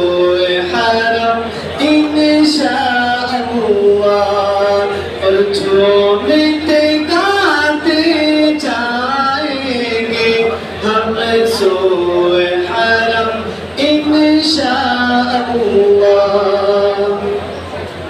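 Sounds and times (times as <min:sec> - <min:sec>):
person singing unaccompanied: 0:00.0 - 0:17.5.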